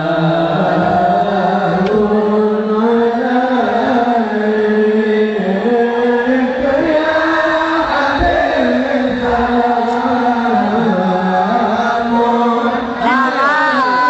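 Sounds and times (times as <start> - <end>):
voices singing devotional chant: 0.0 - 14.0.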